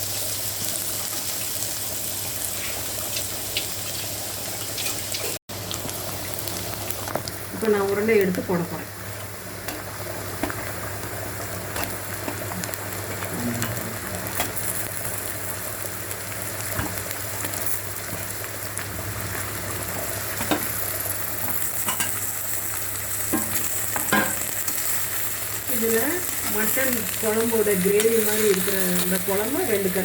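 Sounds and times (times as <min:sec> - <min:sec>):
meat and onions sizzling in a pan: 0:00.0 - 0:30.0.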